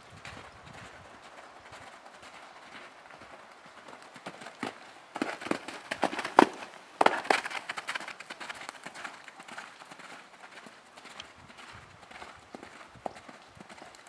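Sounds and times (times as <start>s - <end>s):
horse hoofbeats cantering: 0.0s - 14.0s.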